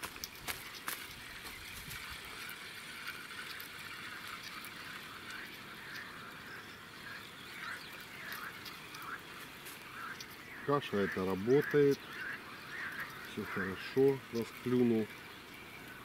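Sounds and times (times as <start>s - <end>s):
steady low hiss: 0.0s - 16.0s
faint chirping: 1.1s - 16.0s.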